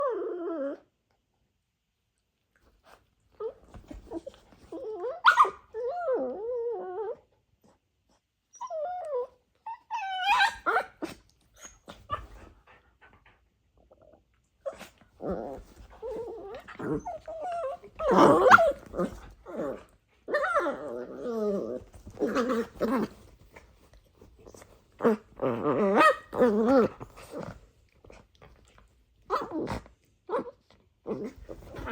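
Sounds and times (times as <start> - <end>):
puppies play growling and whining: 0.0 - 1.2, 2.7 - 31.9.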